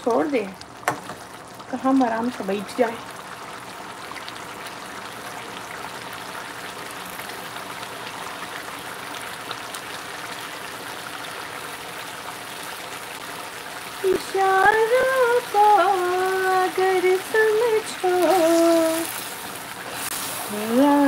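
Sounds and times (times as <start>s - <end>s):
curry bubbling and sizzling in pan: 0.0s - 21.0s.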